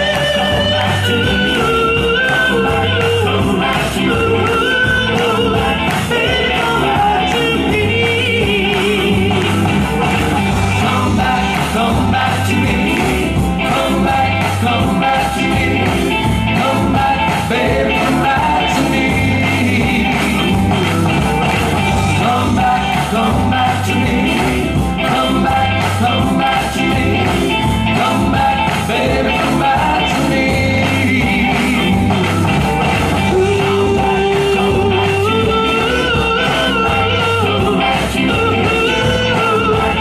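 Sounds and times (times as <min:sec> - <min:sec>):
live rock and roll band: 0:00.0 - 0:40.0.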